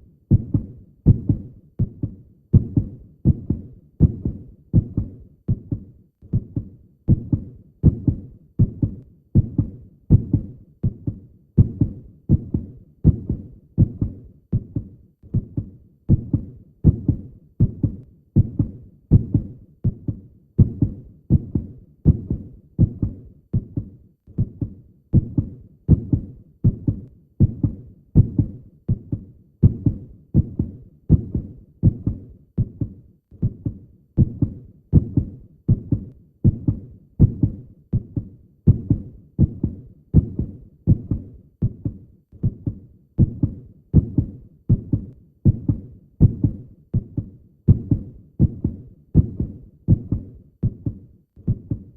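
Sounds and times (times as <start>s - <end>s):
heartbeat thumps: 0.3s - 51.9s.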